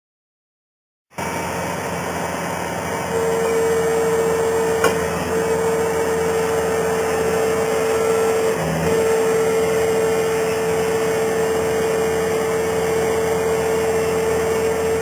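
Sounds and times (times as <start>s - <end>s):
hydraulic whine: 1.1s - 15.0s
loader engine under load: 1.2s - 15.0s.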